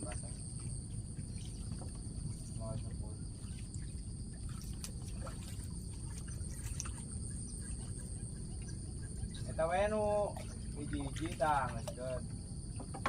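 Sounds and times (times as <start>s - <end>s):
insects chirring: 0.0s - 13.0s
low outdoor rumble: 0.0s - 13.0s.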